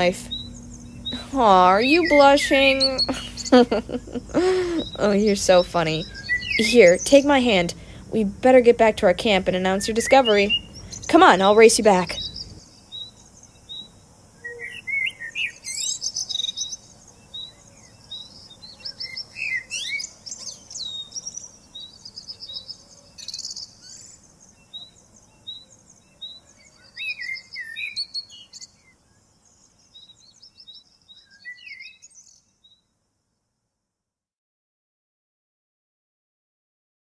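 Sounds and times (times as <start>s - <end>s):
birds warbling calls: 0.0s - 32.6s.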